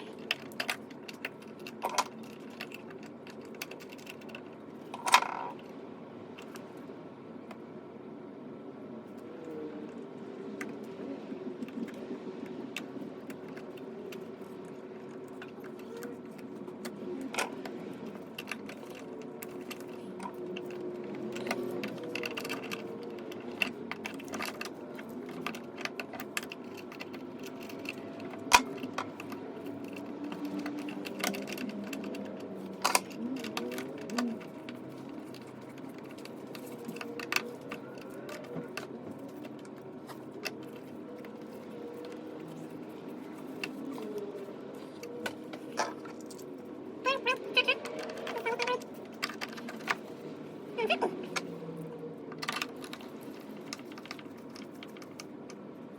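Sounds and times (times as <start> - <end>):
small hard objects clicking: 0.0 - 5.7, 12.7 - 55.7.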